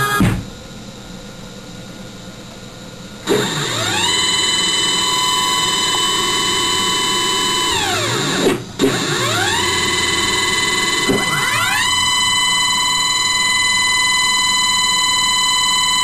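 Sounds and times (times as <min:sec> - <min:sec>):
stepper motors whining: 0:00.0 - 0:00.5, 0:03.3 - 0:16.0.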